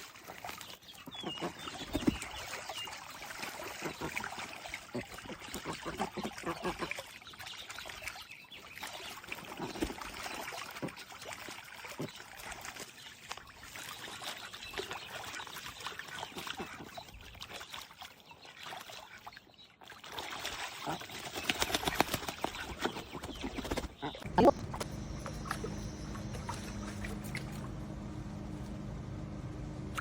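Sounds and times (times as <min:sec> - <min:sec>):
water splashing and trickling: 0:00.0 - 0:30.0.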